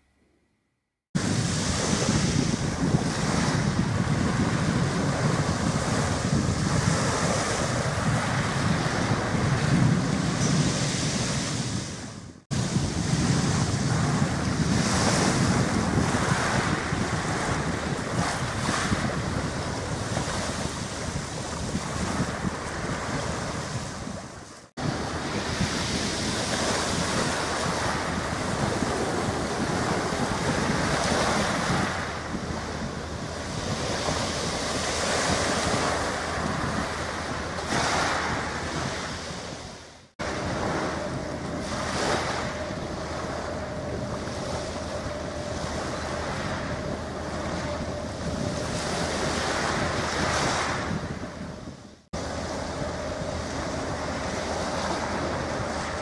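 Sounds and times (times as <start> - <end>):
wind buffeting microphone: 1.1 - 56.0
small waves at shore: 1.2 - 51.4.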